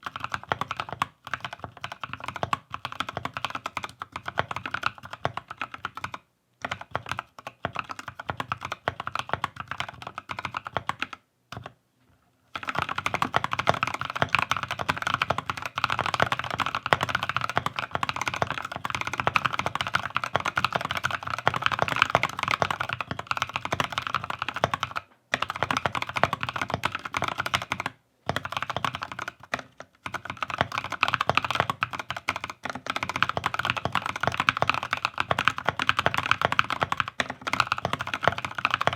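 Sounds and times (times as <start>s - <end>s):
mechanical keyboard typing: 0.0s - 11.8s, 12.6s - 38.9s.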